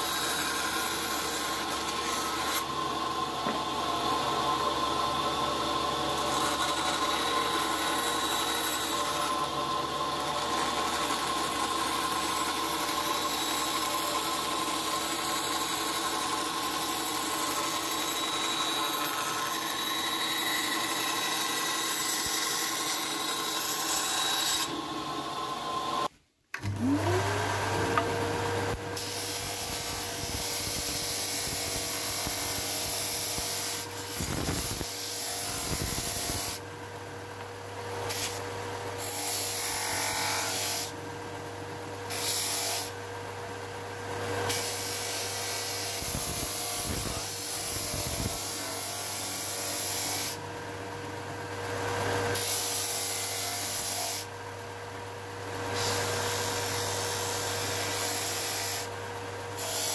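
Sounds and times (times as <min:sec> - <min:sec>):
band saw cutting board: 0:00.0 - 0:36.7, 0:37.4 - 0:41.0, 0:41.8 - 0:43.0, 0:44.2 - 0:50.5, 0:51.6 - 0:54.4, 0:55.4 - 0:59.9.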